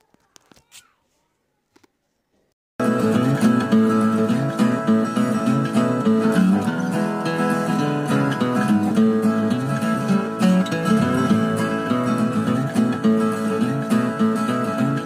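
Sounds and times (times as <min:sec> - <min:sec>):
acoustic guitar music: 0:02.8 - 0:15.0.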